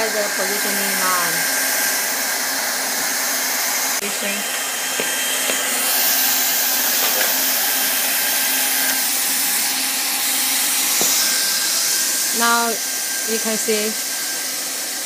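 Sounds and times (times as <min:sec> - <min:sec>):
heat gun blowing hot air: 0:00.0 - 0:15.0.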